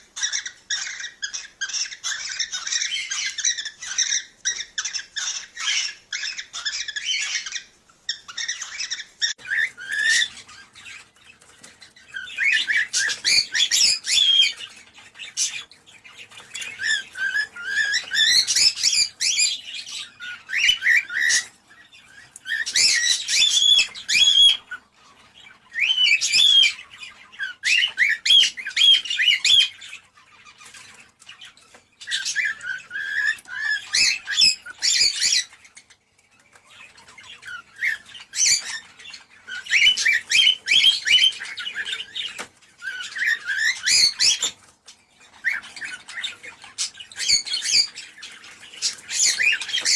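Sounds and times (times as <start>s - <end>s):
cockatiels chirping and whistling: 0.0s - 49.9s.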